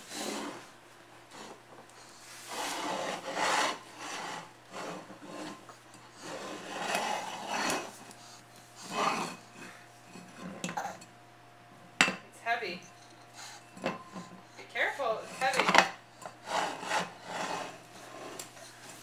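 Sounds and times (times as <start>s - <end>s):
hand scraping pet bowl on tile: 0.0s - 0.7s, 1.3s - 11.1s, 13.0s - 19.0s.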